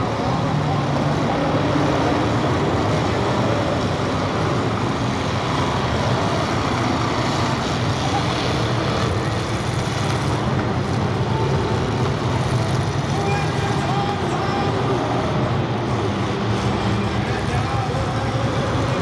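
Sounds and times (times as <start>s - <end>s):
many car engines running: 0.0s - 19.0s.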